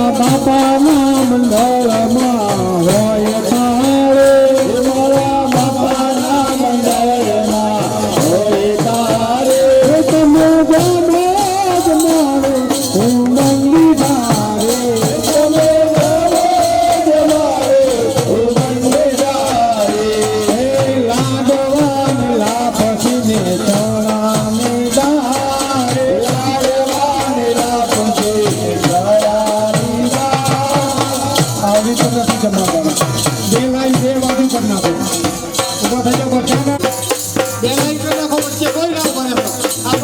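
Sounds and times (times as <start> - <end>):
fast rattling percussion: 0.0 - 40.0
folk song melody: 0.0 - 40.0.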